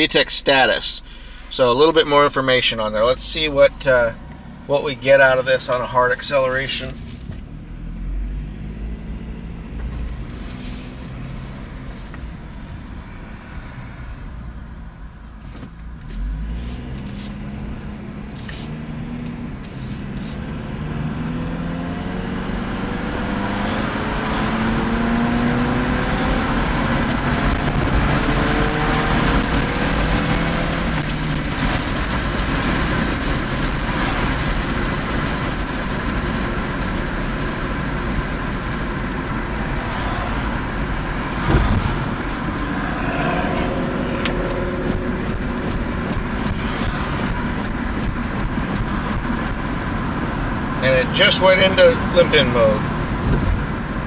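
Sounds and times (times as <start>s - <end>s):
car engine accelerating: 0.0s - 54.0s
road noise: 0.0s - 54.0s.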